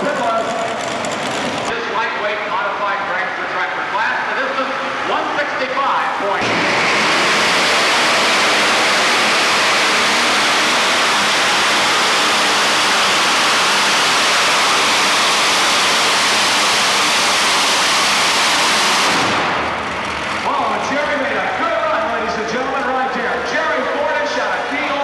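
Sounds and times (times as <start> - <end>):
tractor engine roaring: 0.0 - 25.0.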